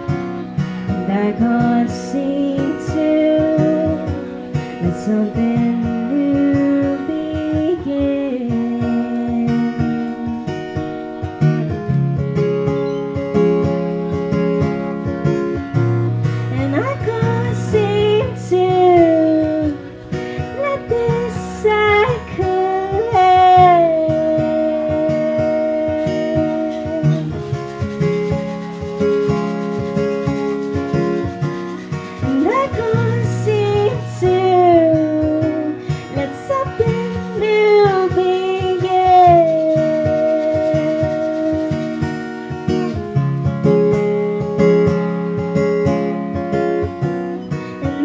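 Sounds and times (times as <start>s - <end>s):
woman singing: 0.0s - 11.7s, 13.3s - 48.0s
strummed acoustic guitar: 0.0s - 48.0s.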